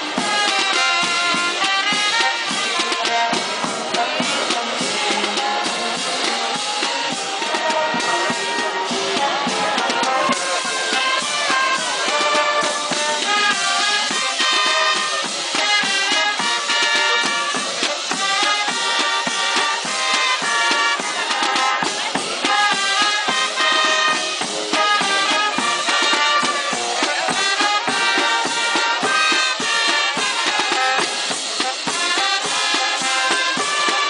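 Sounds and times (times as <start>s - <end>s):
bass drum and snare marching beat: 0.0s - 34.0s
brass melody: 0.0s - 34.0s.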